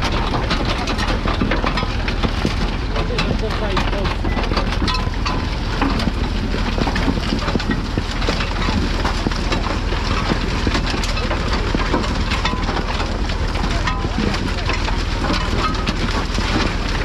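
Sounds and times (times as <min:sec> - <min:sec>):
harvester clattering and rattling: 0:00.0 - 0:17.0
tractor engine running: 0:00.0 - 0:17.0.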